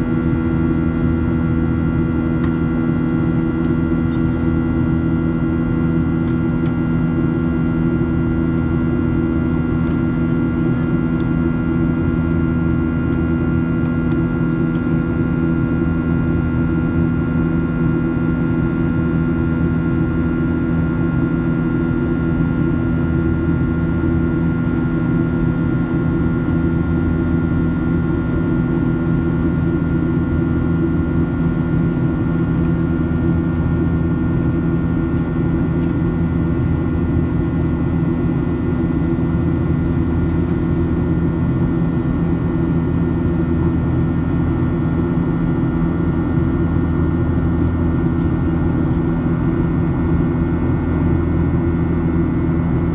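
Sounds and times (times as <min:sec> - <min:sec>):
airplane cabin engine drone: 0:00.0 - 0:52.9.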